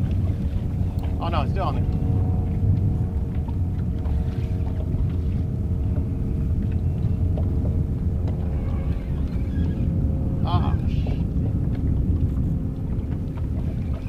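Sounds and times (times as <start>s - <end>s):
boat engine rumble: 0.0s - 14.0s
droning hum: 0.0s - 14.0s.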